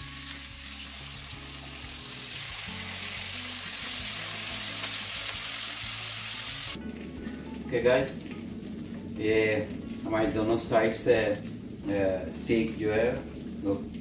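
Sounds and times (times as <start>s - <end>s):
meat sizzling in oil: 0.0s - 14.0s
soft background music: 0.0s - 14.0s.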